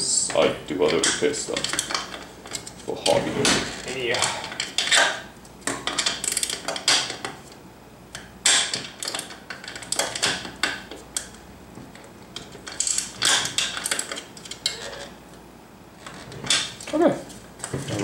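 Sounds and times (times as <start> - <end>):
lamp parts clicking and rattling: 0.7 - 15.2.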